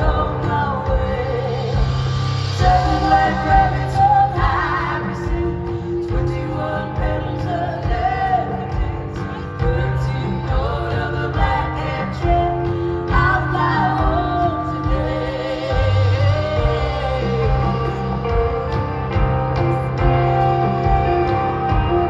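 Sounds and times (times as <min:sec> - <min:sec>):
live band music: 0:00.0 - 0:22.0
person singing with vibrato: 0:00.0 - 0:22.0
steady bass: 0:00.0 - 0:22.0.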